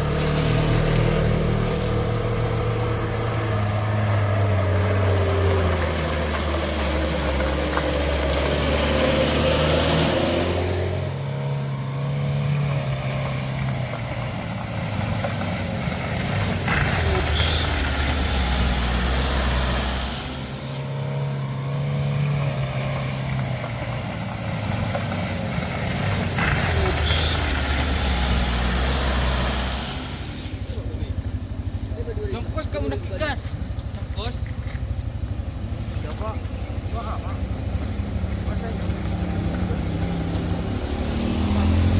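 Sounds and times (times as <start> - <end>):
diesel engine pulling uphill: 0.0 - 41.9
road noise: 0.0 - 41.9.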